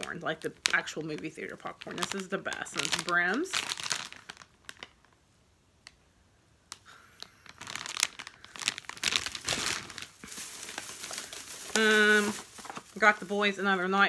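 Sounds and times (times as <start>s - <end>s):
plastic bag crinkling: 0.0s - 5.2s, 6.7s - 14.0s.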